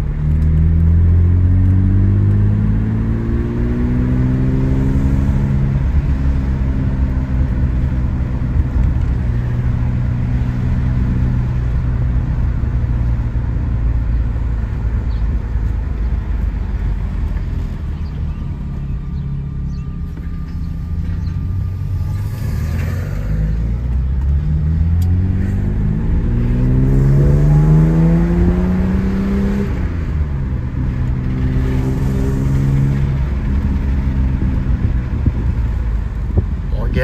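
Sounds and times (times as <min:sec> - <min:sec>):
car engine accelerating: 0:00.0 - 0:37.0
road noise: 0:00.0 - 0:37.0.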